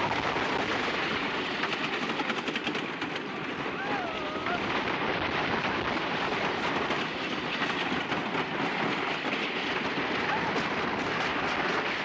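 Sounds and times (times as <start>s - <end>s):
roller coaster rattling on rails: 0.0s - 12.0s.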